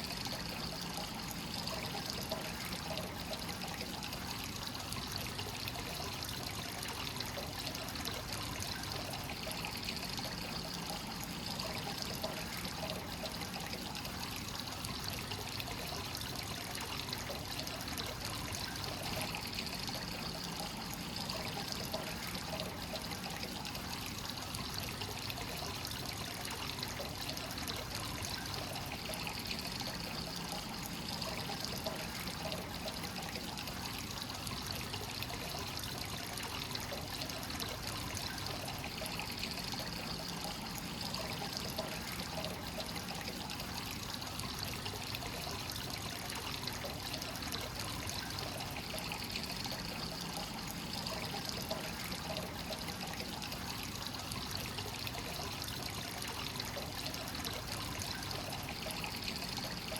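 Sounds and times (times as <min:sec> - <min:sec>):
water pouring into a bath: 0:00.0 - 0:59.9.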